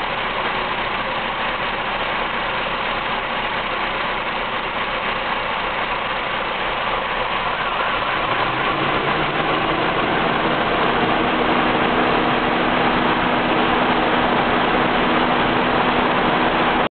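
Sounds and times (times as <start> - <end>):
car engine idling roughly: 0.0 - 16.9.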